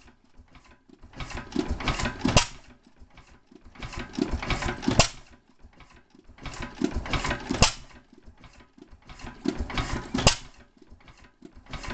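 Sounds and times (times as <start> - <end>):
mechanical clatter with sharp crack: 0.0 - 11.9
stationary gas engine running: 0.0 - 11.9.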